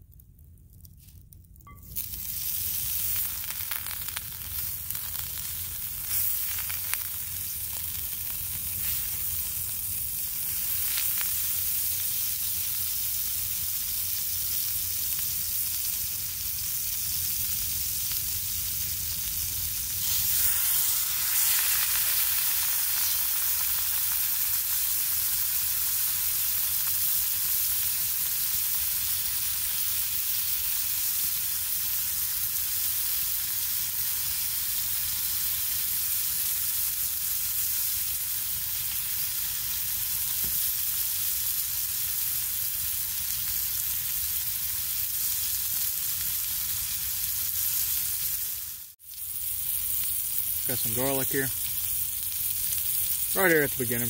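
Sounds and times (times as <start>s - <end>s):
butter sizzling in a skillet: 1.7s - 54.0s.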